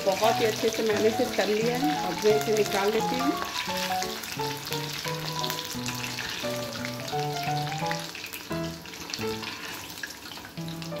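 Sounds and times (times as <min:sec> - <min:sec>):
background music melody: 0:00.0 - 0:11.0
oil sizzling and crackling: 0:00.0 - 0:11.0.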